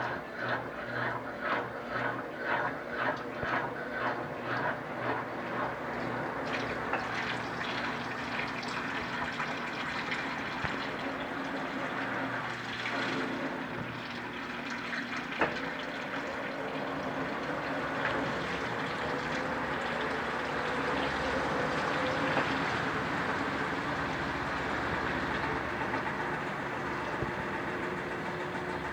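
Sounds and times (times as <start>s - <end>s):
washing machine running: 0.0s - 28.9s.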